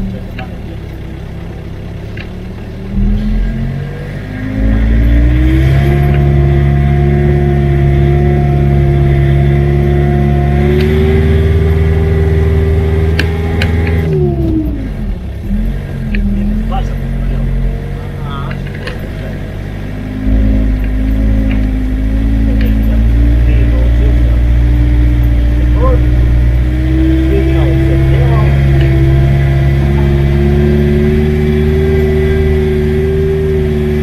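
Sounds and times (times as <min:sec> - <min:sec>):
vehicle engine revving: 0:00.0 - 0:34.0.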